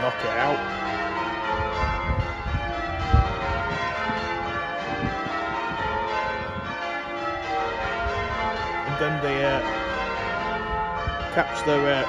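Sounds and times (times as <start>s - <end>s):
church bells change ringing: 0.0s - 12.0s.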